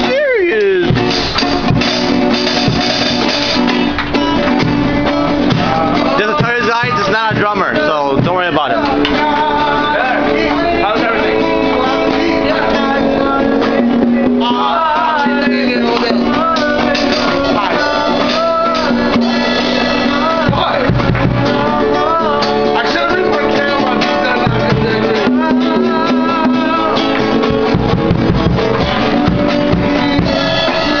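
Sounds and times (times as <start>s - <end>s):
guitar: 0.0s - 31.0s
person singing: 4.0s - 28.3s, 29.0s - 31.0s.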